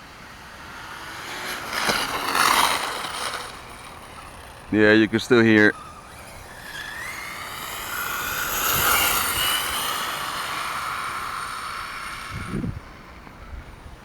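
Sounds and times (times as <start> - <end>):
rc truck engine revving: 0.0 - 14.0.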